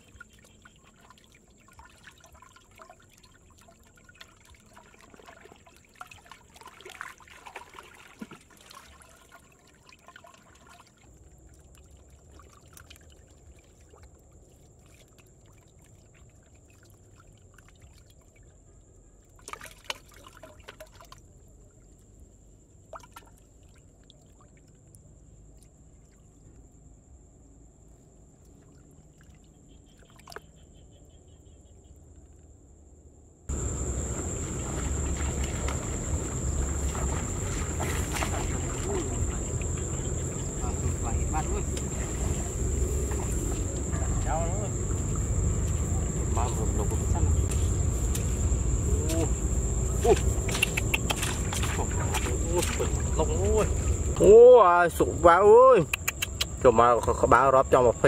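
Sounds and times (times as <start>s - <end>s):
water splashes: 0.0s - 18.6s, 19.2s - 26.6s, 28.4s - 30.6s, 33.5s - 58.0s
water trickling and sloshing: 0.0s - 32.7s, 33.5s - 58.0s.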